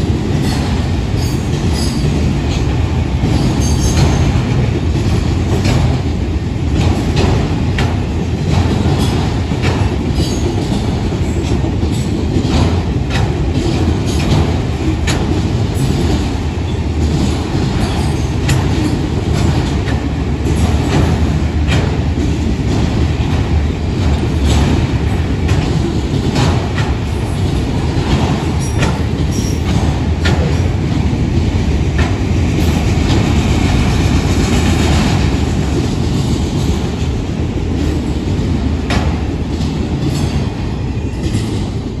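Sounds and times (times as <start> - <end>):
freight cars rumbling on rails: 0.0 - 42.0.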